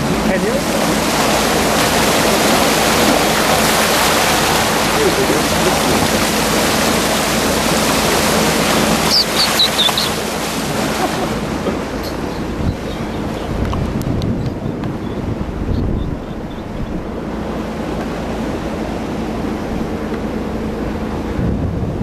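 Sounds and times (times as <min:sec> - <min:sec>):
low engine hum: 0:00.0 - 0:22.0
water rushing along boat bow: 0:00.0 - 0:22.0.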